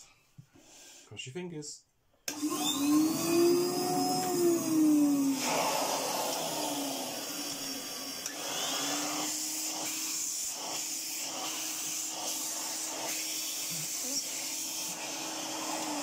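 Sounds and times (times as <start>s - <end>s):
vacuum cleaner running: 2.3s - 16.0s.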